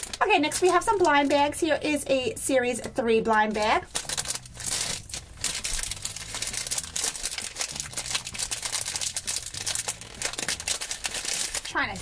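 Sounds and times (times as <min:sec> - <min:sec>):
plastic bag crinkling: 0:00.0 - 0:01.6, 0:03.3 - 0:12.0.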